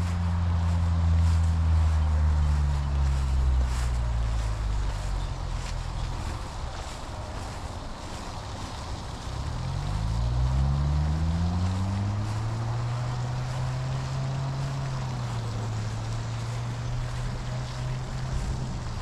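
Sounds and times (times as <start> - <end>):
motor drone: 0.0 - 19.0.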